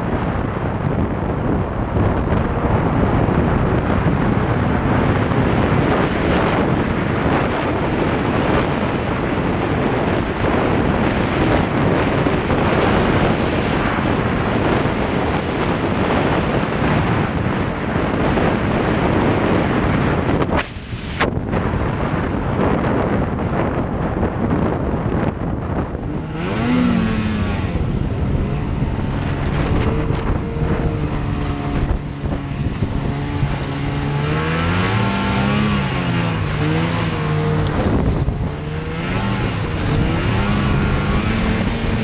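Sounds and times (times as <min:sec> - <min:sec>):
snowmobile engine and track: 0:00.0 - 0:42.0
wind buffeting microphone: 0:00.0 - 0:42.0.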